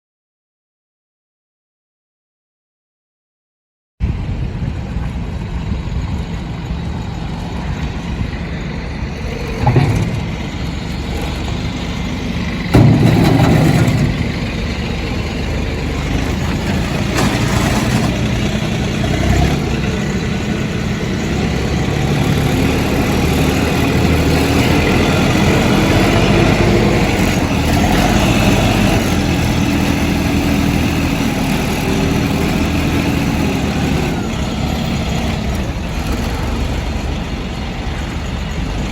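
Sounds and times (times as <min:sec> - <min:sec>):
tractor engine running: 0:04.0 - 0:38.9.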